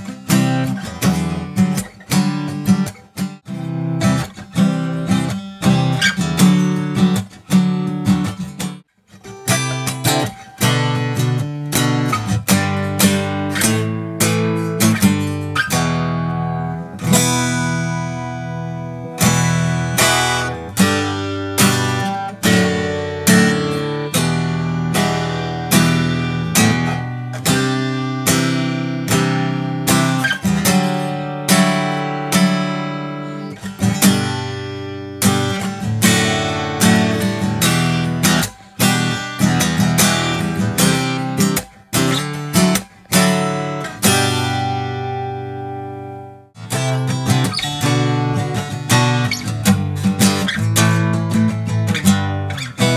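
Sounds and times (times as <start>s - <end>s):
acoustic guitar strumming chords: 0.0s - 52.9s.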